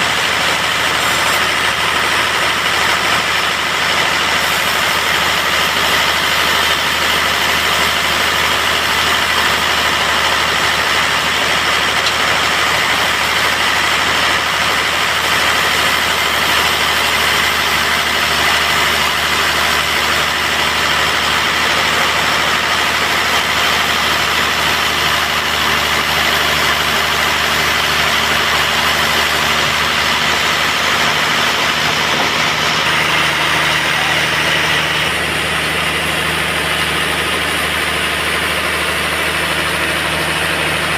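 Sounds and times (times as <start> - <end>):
band sawmill running: 0.0 - 40.9.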